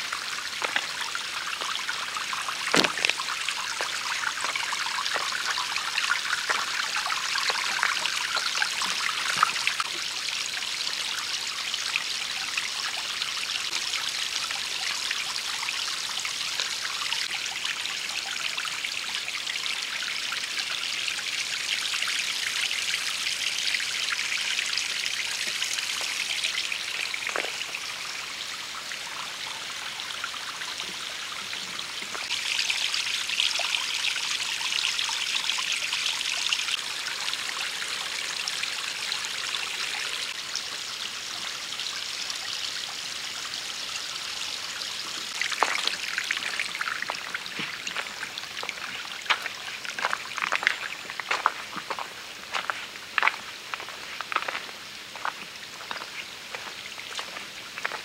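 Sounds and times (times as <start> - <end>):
stream water hissing: 0.0 - 58.0.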